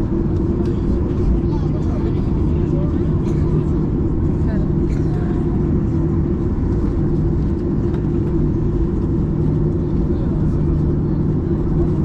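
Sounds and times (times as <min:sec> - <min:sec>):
engine rumble with hum: 0:00.0 - 0:12.0.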